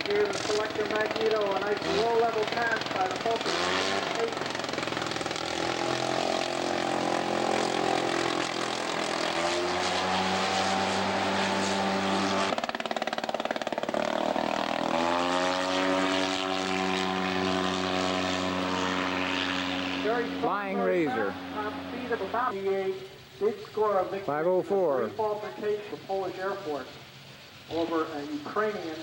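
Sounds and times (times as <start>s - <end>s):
biplane rotary engine running: 0.0s - 29.0s.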